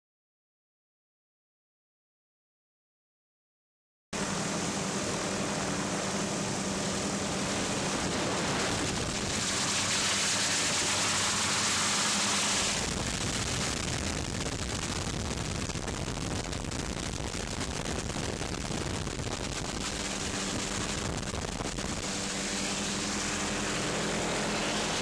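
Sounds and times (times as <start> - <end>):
aircraft engine and wind noise: 4.2 - 25.0
low hum: 4.2 - 25.0.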